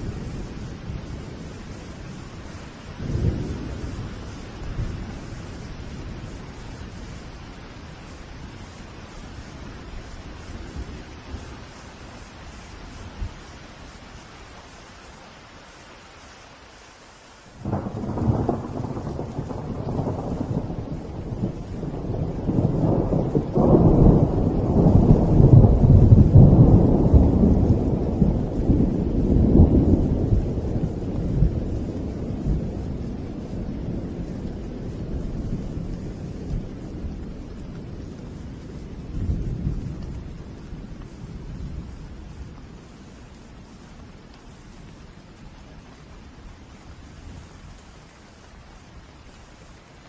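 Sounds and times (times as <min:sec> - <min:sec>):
thunder clap and rumble: 0:00.0 - 0:13.6, 0:17.6 - 0:49.7
rain hiss: 0:00.0 - 0:50.0.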